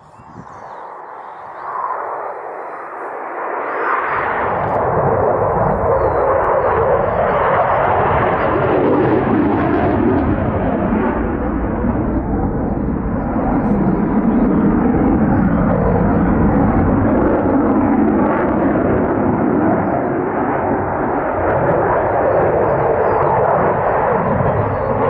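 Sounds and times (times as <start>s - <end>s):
jet fighter engines roaring: 0.0s - 25.0s.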